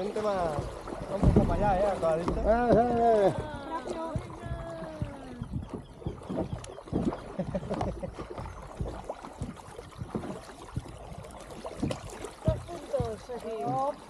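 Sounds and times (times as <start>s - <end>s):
paddles splashing in water: 0.0s - 14.0s.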